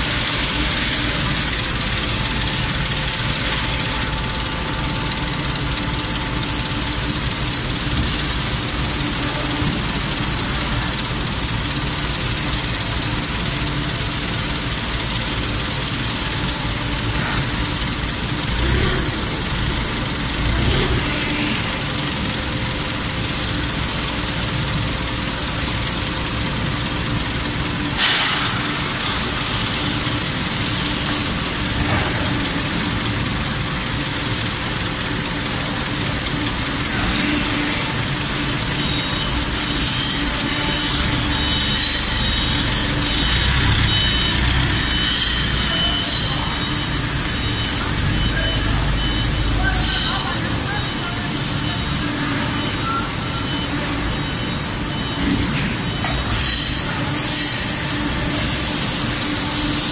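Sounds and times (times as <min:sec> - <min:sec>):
industrial machine hum: 0:00.0 - 0:59.9.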